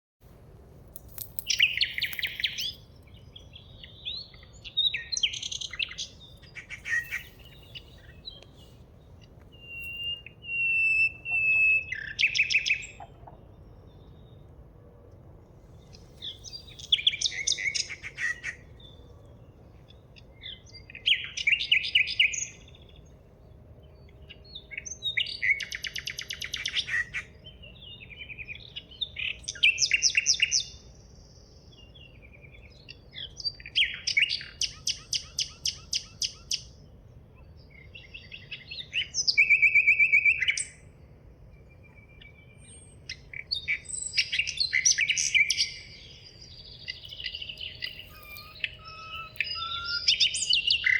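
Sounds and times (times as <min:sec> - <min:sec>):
songbird trilling and chirping: 0:01.0 - 0:14.4, 0:15.8 - 0:23.2, 0:23.8 - 0:50.9.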